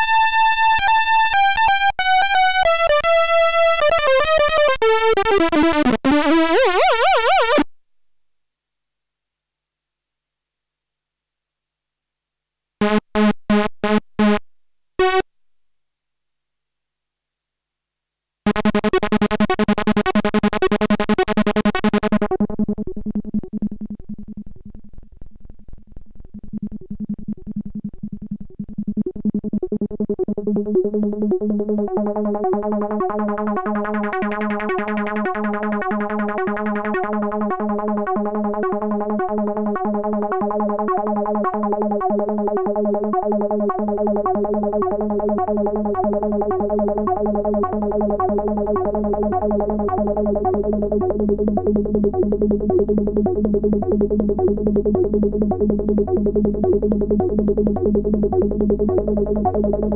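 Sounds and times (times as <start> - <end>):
synthesizer sequenced notes: 0.0 - 7.7, 12.8 - 14.4, 15.0 - 15.3, 18.5 - 59.9.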